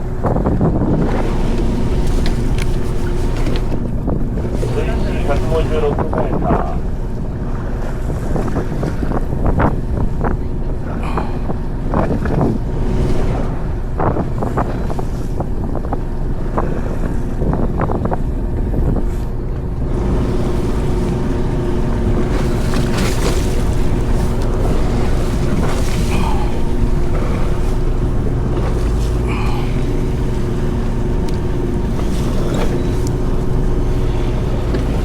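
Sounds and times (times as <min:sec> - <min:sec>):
boat engine running: 0:00.0 - 0:35.0
wind noise on microphone: 0:00.0 - 0:35.0.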